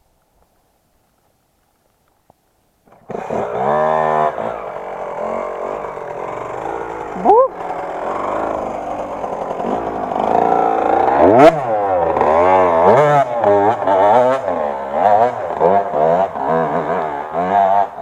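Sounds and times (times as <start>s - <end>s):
motorcycle engine revving: 2.9s - 18.0s.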